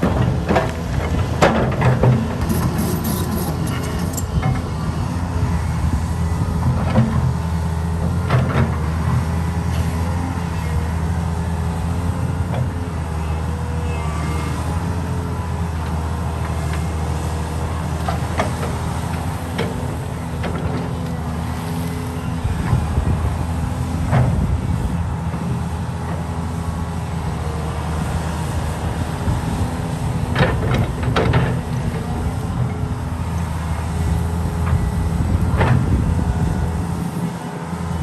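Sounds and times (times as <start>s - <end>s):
heavy machinery diesel engine: 0.0s - 38.0s.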